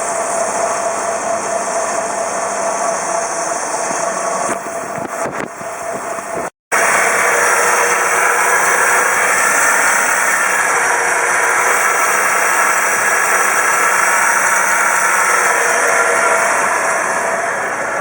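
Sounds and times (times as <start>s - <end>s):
car engine running with hiss: 0.0s - 18.0s.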